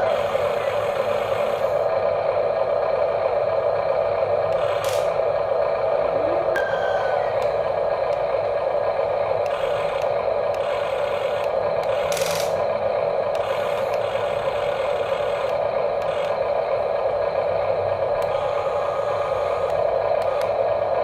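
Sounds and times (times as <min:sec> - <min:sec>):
small electric motors running: 0:00.0 - 0:02.0, 0:03.0 - 0:21.0.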